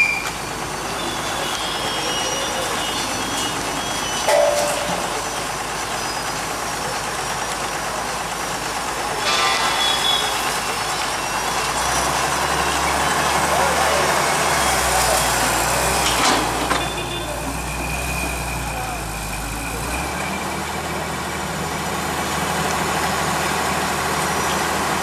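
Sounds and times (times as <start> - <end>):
heavy machinery: 0.0 - 25.0
street traffic: 0.0 - 25.0.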